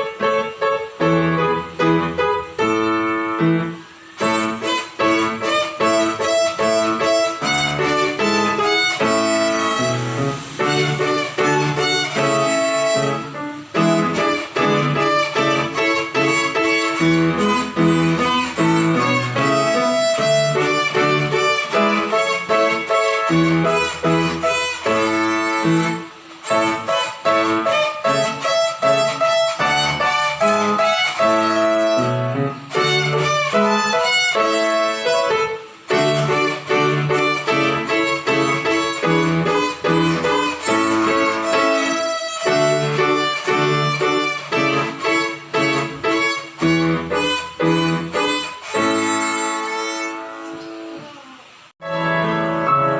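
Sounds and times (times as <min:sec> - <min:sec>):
violin melody: 0:00.0 - 0:52.9.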